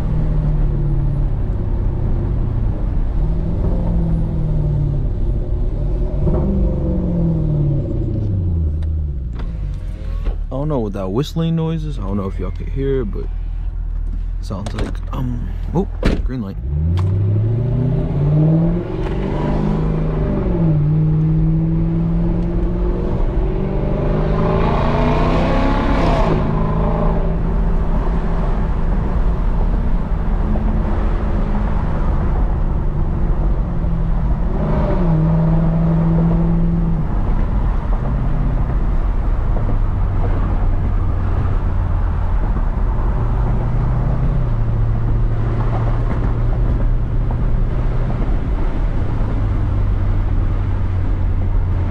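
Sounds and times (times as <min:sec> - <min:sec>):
car exhaust accelerating: 0:00.0 - 0:51.9.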